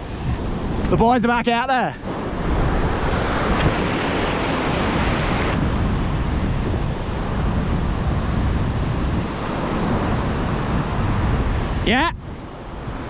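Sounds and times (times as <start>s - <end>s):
ocean surf washing: 0.0s - 13.0s
wind buffeting microphone: 0.0s - 13.0s.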